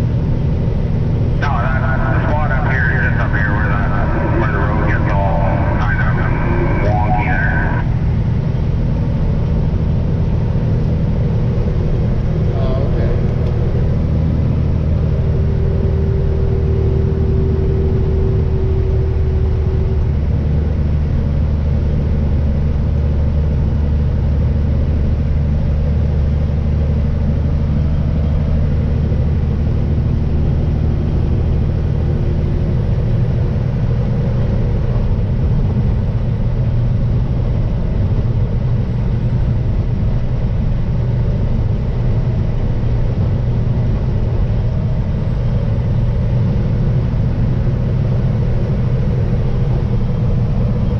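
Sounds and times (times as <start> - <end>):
diesel truck engine drone: 0.0 - 50.9
road noise: 0.0 - 50.9.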